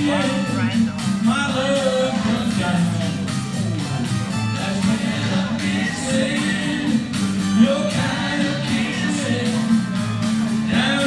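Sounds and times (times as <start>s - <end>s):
man singing into a microphone: 0.0s - 3.4s, 4.5s - 11.0s
amplified backing music: 0.0s - 11.0s.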